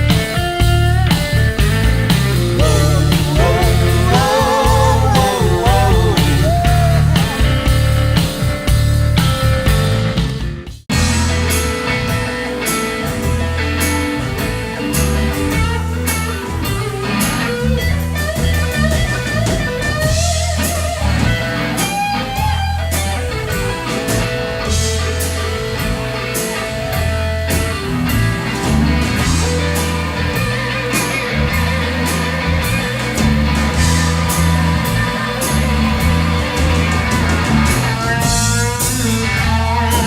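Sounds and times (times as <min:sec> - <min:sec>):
electric guitar bending notes: 0:00.0 - 0:09.9, 0:11.0 - 0:40.0
bass: 0:00.0 - 0:40.0
steady drum beat: 0:00.6 - 0:40.0.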